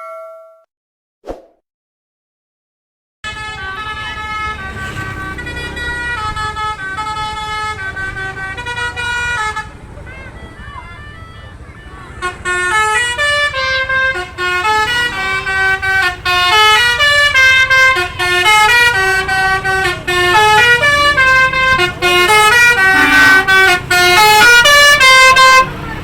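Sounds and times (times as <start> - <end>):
musical bus air horn melody: 3.2 - 26.0.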